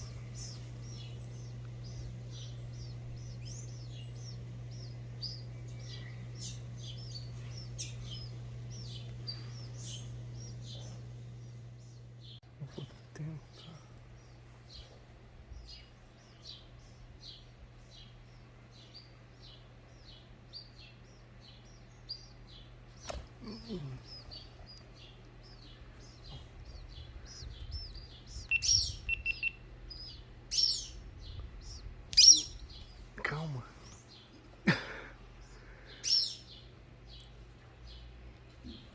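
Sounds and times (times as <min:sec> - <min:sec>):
small bird chirping: 0:00.0 - 0:34.6, 0:35.4 - 0:38.9.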